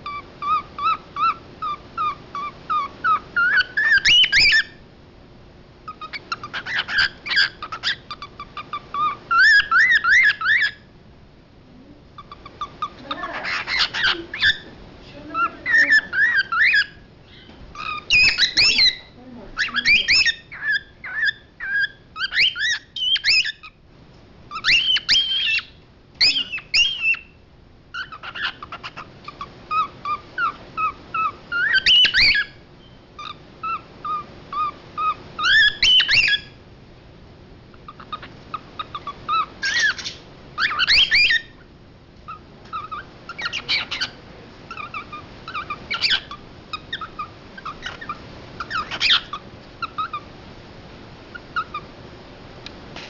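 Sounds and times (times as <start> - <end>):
cockatiel whistled calls: 0.0 - 4.8, 5.9 - 10.9, 12.2 - 14.7, 15.4 - 23.8, 24.5 - 36.6, 37.9 - 41.6, 42.3 - 50.2, 51.3 - 51.8.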